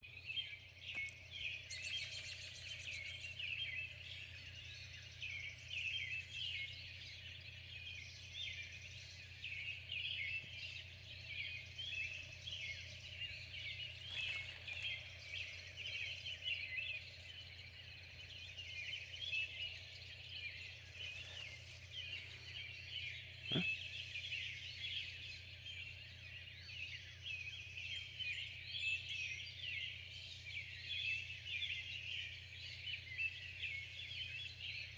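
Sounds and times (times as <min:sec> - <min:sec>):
small birds chirping and singing: 0:00.0 - 0:34.9.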